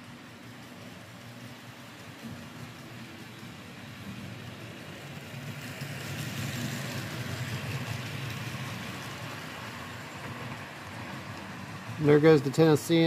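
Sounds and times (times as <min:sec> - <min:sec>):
model train running hum: 0:00.0 - 0:13.0.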